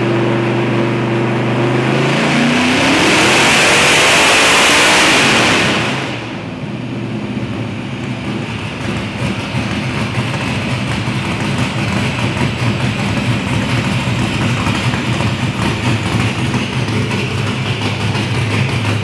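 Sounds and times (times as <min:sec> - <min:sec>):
engine droning on a dyno: 0:00.0 - 0:19.0.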